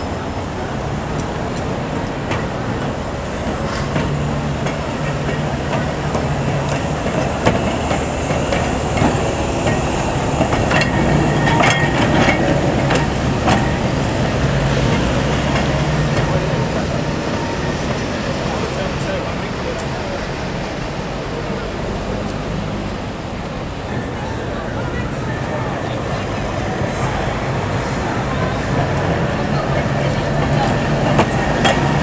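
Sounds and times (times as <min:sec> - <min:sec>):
electric tram hum: 0:00.0 - 0:32.0
tram wheels clicking and knocking: 0:00.0 - 0:32.0.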